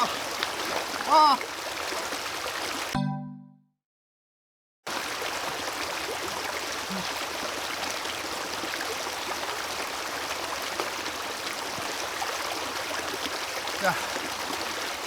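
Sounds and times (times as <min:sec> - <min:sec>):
stream rushing: 0:00.0 - 0:02.9, 0:04.9 - 0:15.0.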